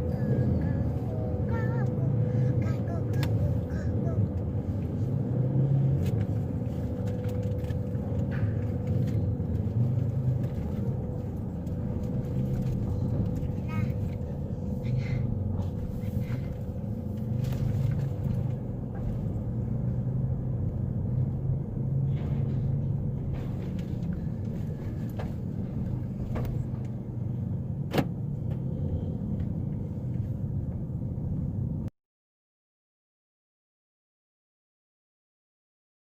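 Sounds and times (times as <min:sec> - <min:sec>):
low engine rumble: 0:00.0 - 0:31.9.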